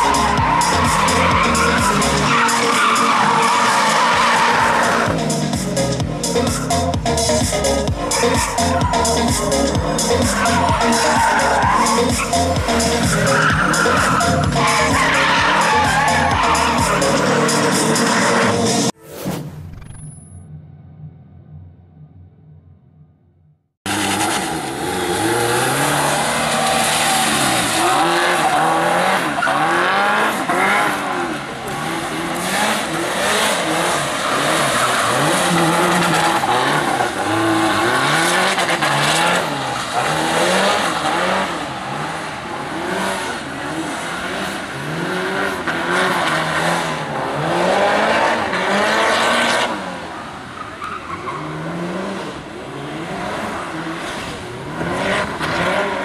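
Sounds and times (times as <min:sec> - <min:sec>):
tyre noise on wet asphalt: 0:00.0 - 0:18.6, 0:23.9 - 0:56.0
car engine revving: 0:00.0 - 0:56.0.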